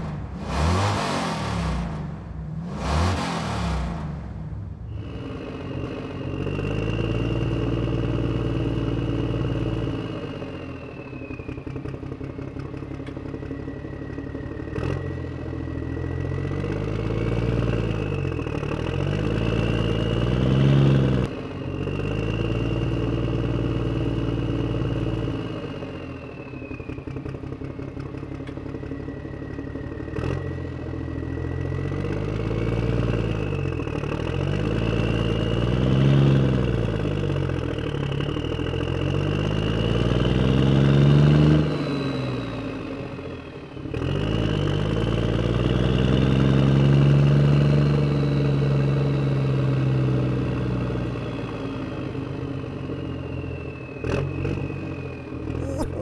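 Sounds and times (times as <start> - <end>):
engine revving and idling: 0.0 - 56.0.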